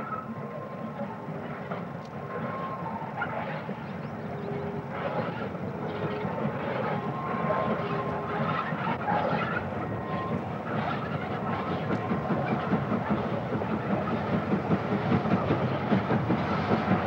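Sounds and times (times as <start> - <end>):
steam locomotive exhaust beats: 0.0 - 17.0.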